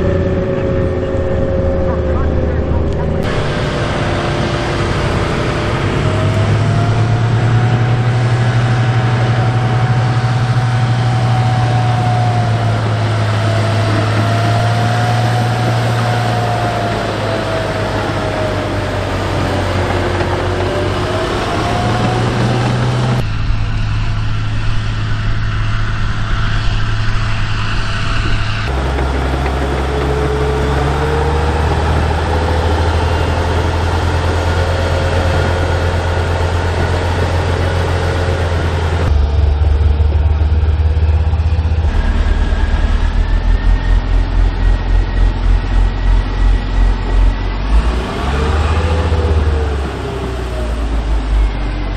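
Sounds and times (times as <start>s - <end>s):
tracked vehicle engine running: 0.0s - 51.9s
wavering engine whine: 0.0s - 51.9s.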